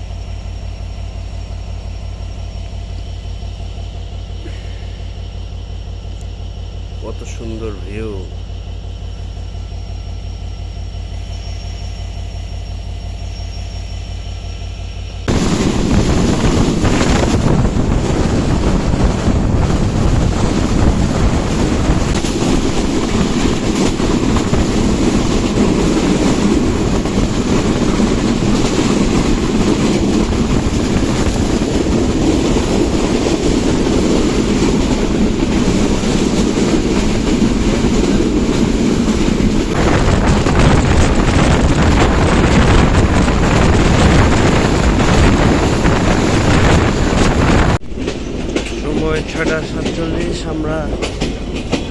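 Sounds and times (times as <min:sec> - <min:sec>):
low hum: 0:00.0 - 0:42.6
passenger train rushing: 0:00.0 - 0:51.9.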